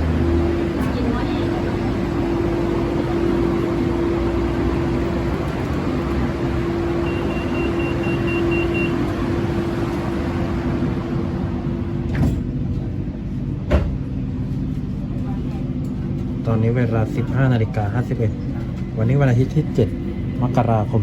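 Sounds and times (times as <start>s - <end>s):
train motor hum: 0.0s - 20.6s
train rumble: 0.0s - 21.0s.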